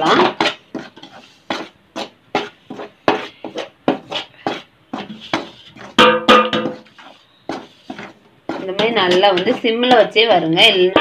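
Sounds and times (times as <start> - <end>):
metal ladle scraping a pan: 0.0 - 11.0.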